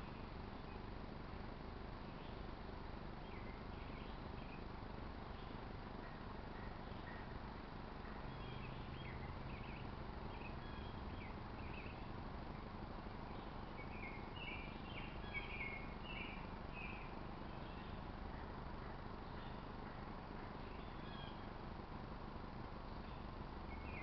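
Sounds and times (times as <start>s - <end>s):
small birds chirping: 0.0s - 12.2s, 12.8s - 21.6s, 22.6s - 24.0s.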